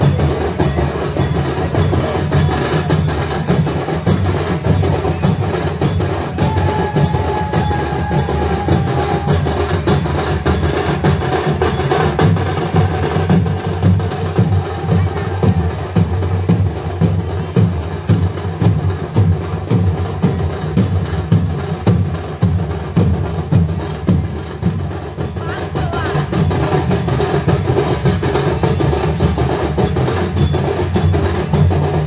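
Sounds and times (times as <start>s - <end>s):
deep drumming: 0.0s - 32.0s.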